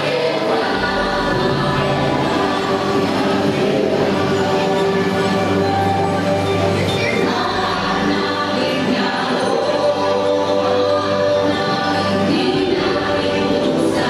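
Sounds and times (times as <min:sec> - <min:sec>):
choir singing held notes: 0:00.0 - 0:14.0
steady low drone: 0:00.0 - 0:14.0.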